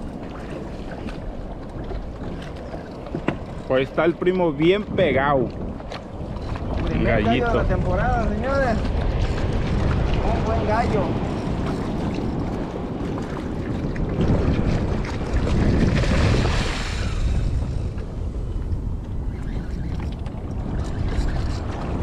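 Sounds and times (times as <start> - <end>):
water sloshing against a raft: 0.0 - 22.0
wind buffeting microphone: 0.0 - 22.0.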